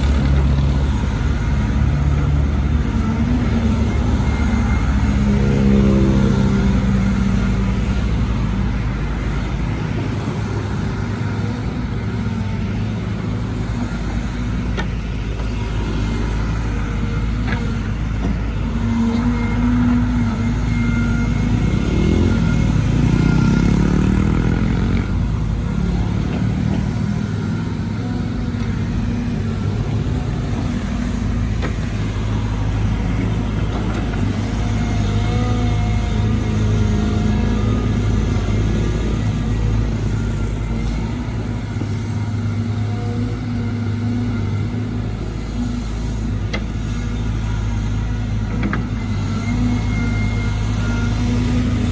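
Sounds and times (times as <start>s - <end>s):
excavator diesel engine working: 0.0s - 51.9s.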